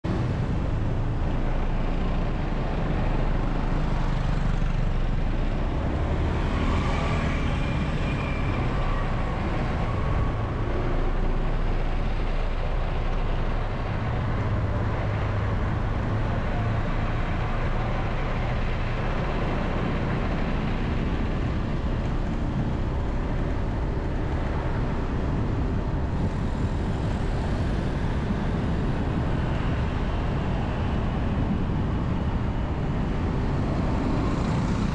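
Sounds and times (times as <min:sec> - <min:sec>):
engine and road rumble: 0:00.0 - 0:34.9
passing motorbikes and cars: 0:00.1 - 0:34.9.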